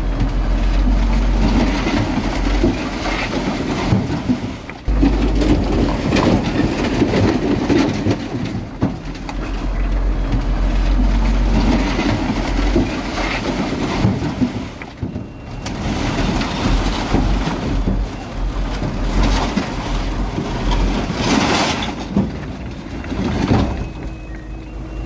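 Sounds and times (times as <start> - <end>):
heavy machinery rumbling: 0.0 - 25.0.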